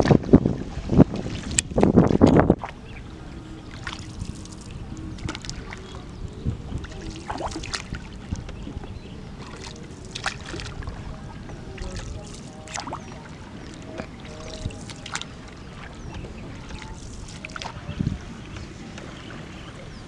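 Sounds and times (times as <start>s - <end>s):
paddle splashing in water: 0.0s - 20.0s
wind buffeting microphone: 0.0s - 20.0s.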